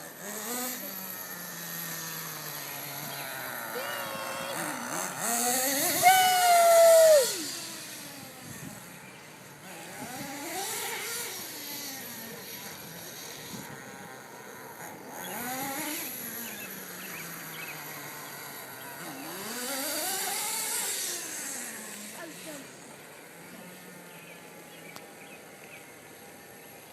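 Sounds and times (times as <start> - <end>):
small nitro engine revving: 0.0 - 26.9.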